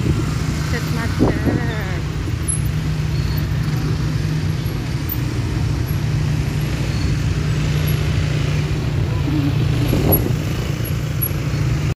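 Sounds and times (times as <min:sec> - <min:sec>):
traffic and road rumble: 0:00.0 - 0:11.9.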